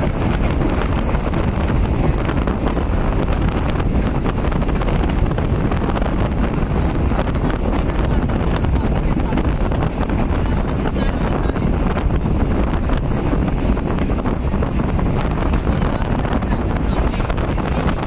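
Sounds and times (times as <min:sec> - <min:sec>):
moving train rumble: 0:00.0 - 0:18.0
wind buffeting microphone: 0:00.0 - 0:18.0.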